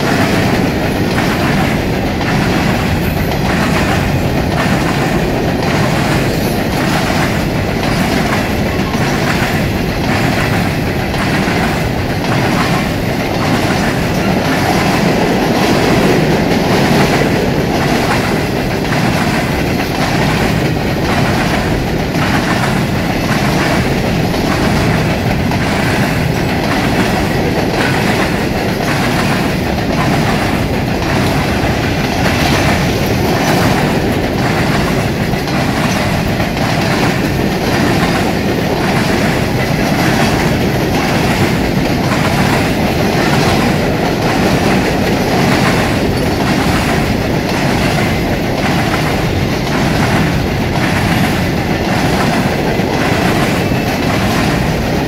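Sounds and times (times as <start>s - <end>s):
freight train rumbling past: 0.0s - 55.0s
wheels clattering over track: 0.0s - 55.0s.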